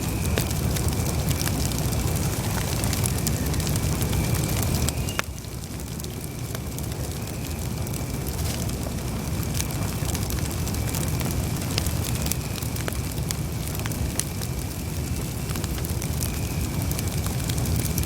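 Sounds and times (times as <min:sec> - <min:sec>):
campfire flames rushing: 0:00.0 - 0:18.0
wood crackling and popping: 0:00.0 - 0:18.0.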